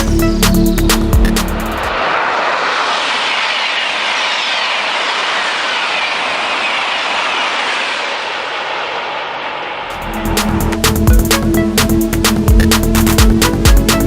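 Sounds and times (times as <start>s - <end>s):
high-speed train rushing past: 0.0s - 12.6s.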